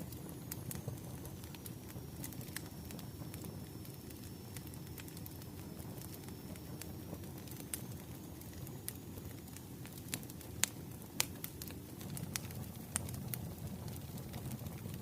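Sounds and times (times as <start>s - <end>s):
bonfire crackling: 0.0s - 15.0s
burning wood popping and snapping: 0.0s - 15.0s.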